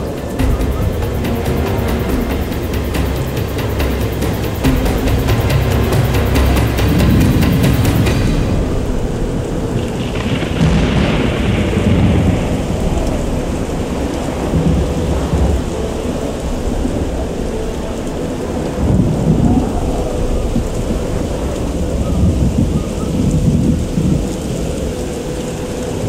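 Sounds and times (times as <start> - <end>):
low rumble: 0.0 - 25.1
haze of noise: 0.0 - 26.0.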